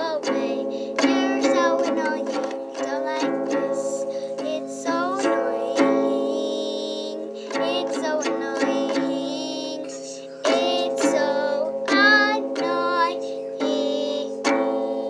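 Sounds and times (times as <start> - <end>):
child singing: 0.0 - 15.0
ukulele strumming: 0.0 - 15.0.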